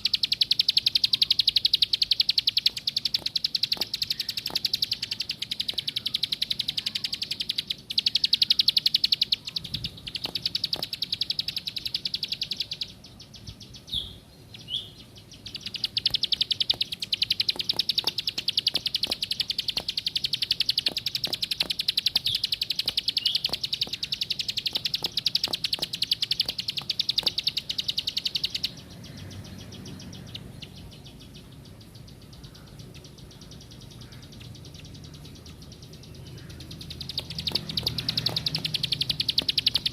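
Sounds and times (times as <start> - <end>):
bird singing rapid high notes: 0.0 - 39.9.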